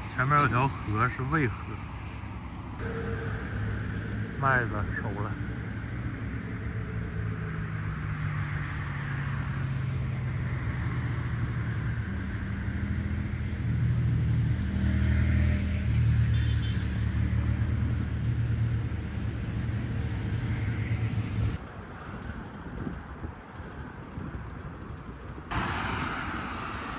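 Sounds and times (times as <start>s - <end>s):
traffic engine rumble: 0.0s - 26.9s
tyre noise of passing vehicles: 0.0s - 26.9s.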